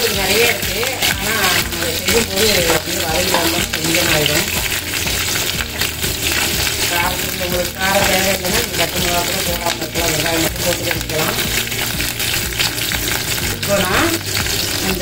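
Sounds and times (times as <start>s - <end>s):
chillies sizzling in hot oil: 0.0s - 15.0s
wooden spatula stirring in metal pot: 0.0s - 15.0s.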